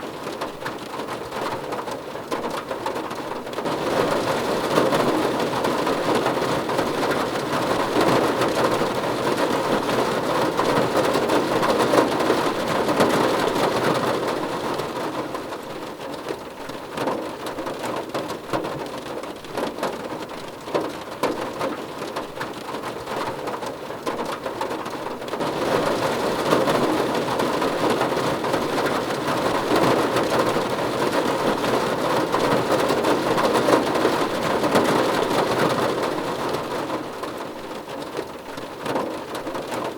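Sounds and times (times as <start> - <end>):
rain on a car: 0.0 - 39.9.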